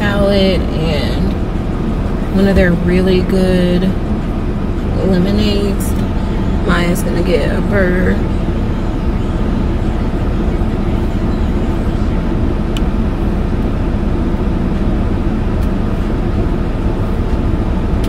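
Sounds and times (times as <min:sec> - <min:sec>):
low rumbling inside car: 0:00.0 - 0:18.0.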